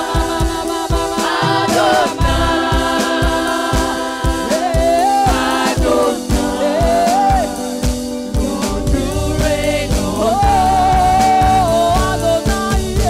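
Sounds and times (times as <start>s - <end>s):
backing music with drum beat: 0.0s - 13.0s
women singing together: 0.0s - 13.0s.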